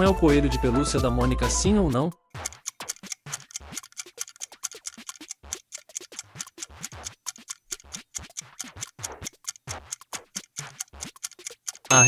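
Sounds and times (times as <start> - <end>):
countdown timer music: 0.0 - 12.0.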